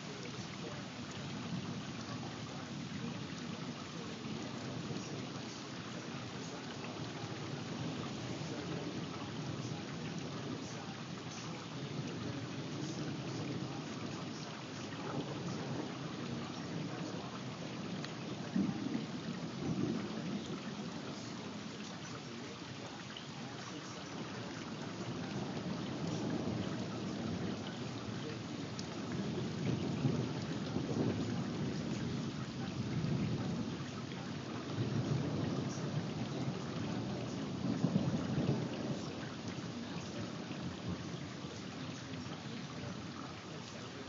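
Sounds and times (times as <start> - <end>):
low rolling thunder: 0.0 - 44.0
steady rain: 0.0 - 44.0.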